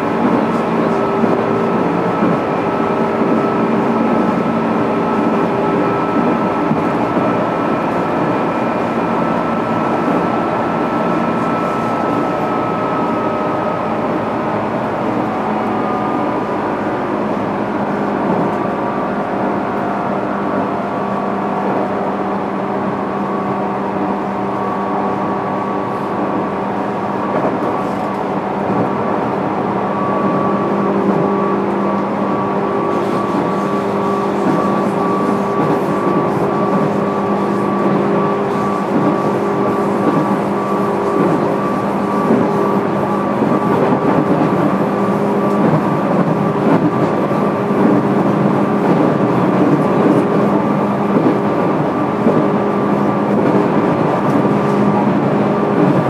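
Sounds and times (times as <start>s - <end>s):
train motor hum: 0.0s - 56.0s
train wheels on rails: 0.0s - 56.0s.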